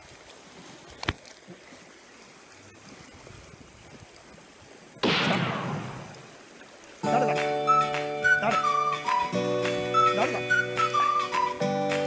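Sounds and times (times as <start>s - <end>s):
faint wind: 0.0s - 11.8s
sea noise: 0.0s - 12.0s.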